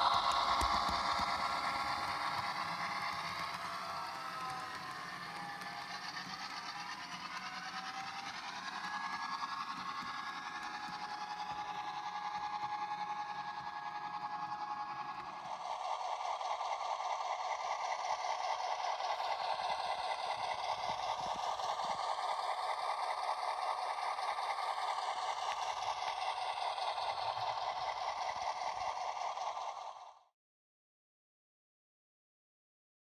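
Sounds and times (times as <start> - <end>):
model locomotive diesel engine sound: 0.0 - 30.3.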